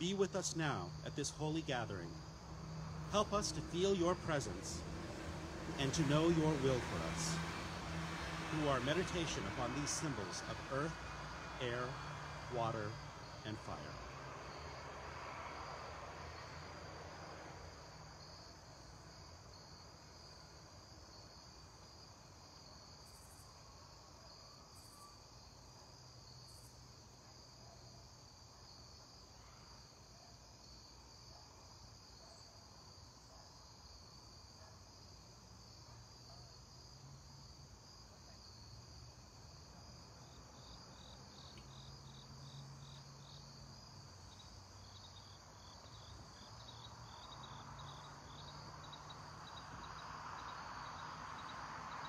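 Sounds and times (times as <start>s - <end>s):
crickets chirring: 0.0s - 52.0s.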